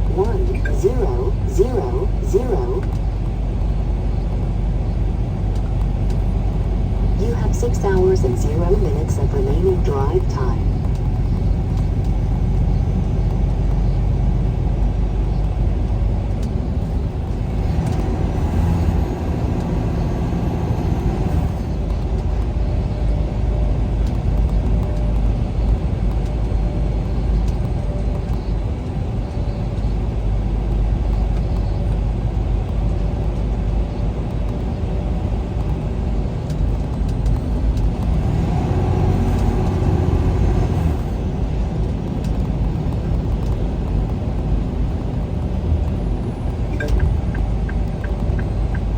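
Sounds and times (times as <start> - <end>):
truck engine and road rumble: 0.0 - 48.9.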